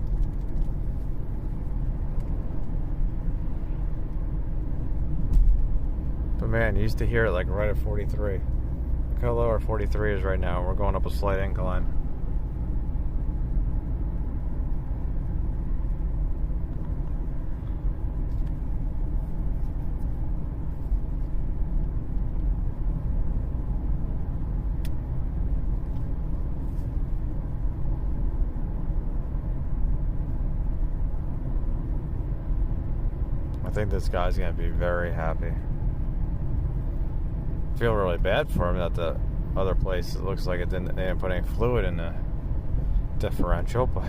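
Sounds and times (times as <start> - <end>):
road and drivetrain noise in cabin: 0.0 - 44.0.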